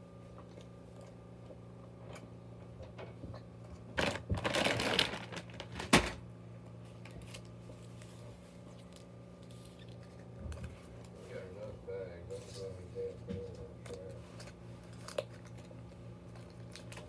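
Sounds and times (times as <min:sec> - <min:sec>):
steady low hum: 0:00.0 - 0:17.0
crackling and clicking handling noise: 0:00.3 - 0:11.2, 0:13.3 - 0:17.0.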